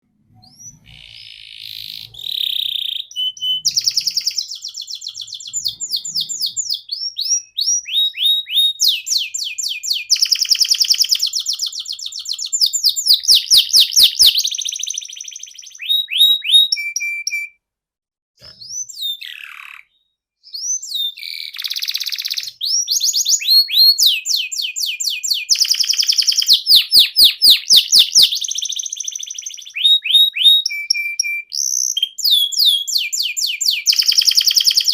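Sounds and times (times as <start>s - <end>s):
canary singing trills: 0.3s - 17.5s, 18.4s - 34.9s.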